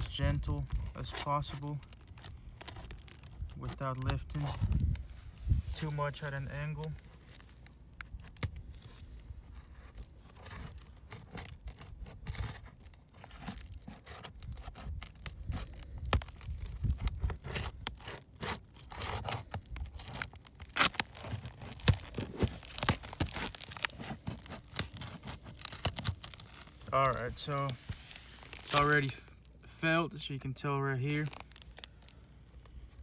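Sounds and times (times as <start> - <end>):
shingle tearing and crackling: 0.0 - 29.7, 30.6 - 33.0.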